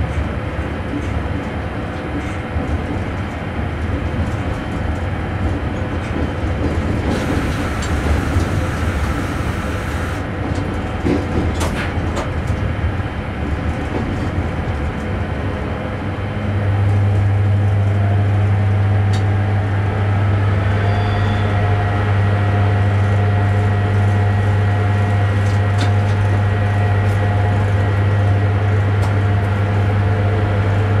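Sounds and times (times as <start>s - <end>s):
train running noise: 0.0s - 31.0s.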